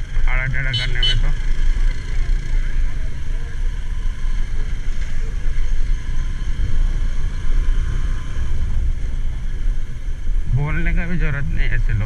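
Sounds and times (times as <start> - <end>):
motorbike engine: 0.0 - 10.1
road noise: 0.0 - 12.0.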